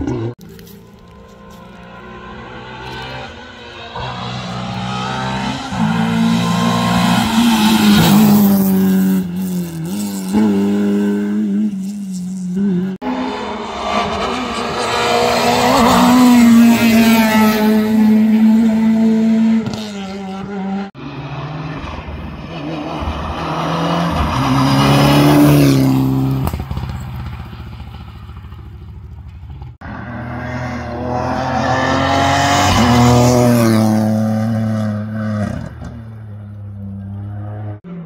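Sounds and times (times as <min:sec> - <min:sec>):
rally car engines revving: 0:00.0 - 0:27.0, 0:29.7 - 0:38.0.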